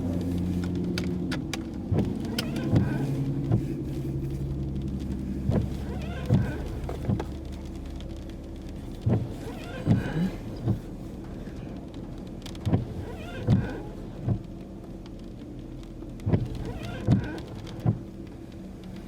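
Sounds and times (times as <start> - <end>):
engine and road drone: 0.0 - 19.0.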